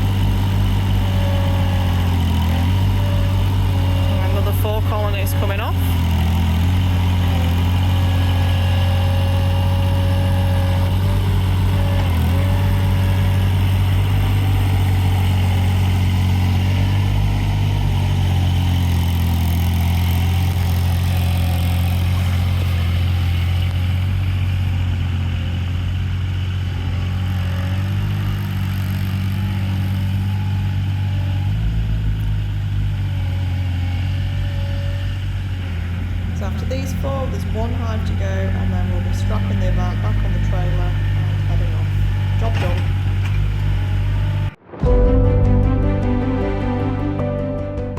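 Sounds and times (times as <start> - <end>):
loader engine droning: 0.0 - 47.9.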